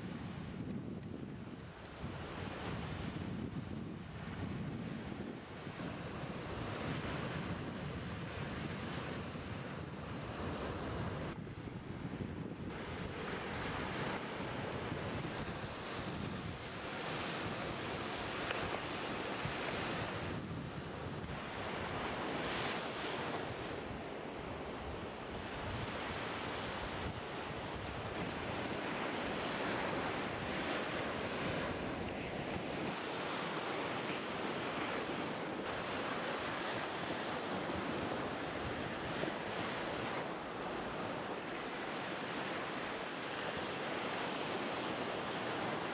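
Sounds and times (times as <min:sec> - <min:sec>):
sea surf on beach: 0:00.0 - 0:45.9.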